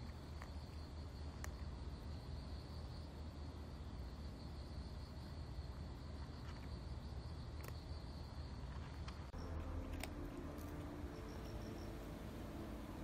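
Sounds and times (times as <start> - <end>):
crickets trilling: 0.0 - 13.0
low steady hum: 0.0 - 13.0.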